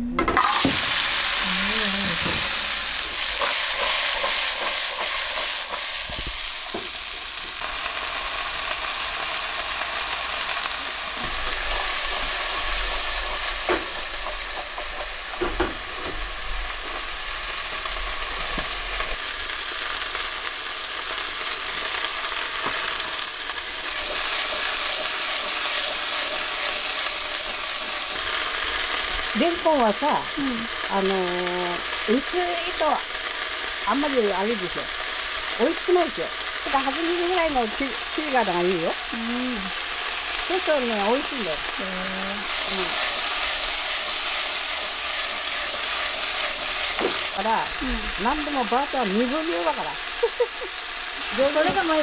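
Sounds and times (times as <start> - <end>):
food sizzling in hot oil: 0.3 - 52.0.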